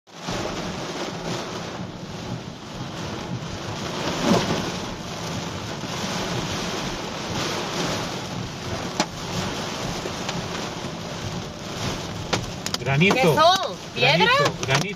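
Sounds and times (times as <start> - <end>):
rain and hail on a car roof: 0.1 - 14.9.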